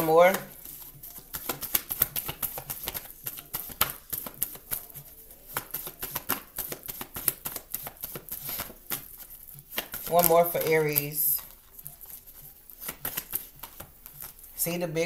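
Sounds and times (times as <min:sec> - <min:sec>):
cards being shuffled: 0:00.0 - 0:14.7.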